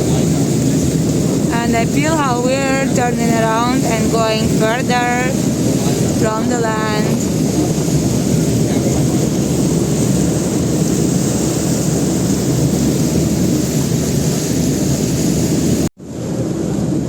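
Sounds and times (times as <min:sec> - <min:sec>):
boat engine droning: 0:00.0 - 0:15.9
wind and water rushing: 0:00.0 - 0:17.0.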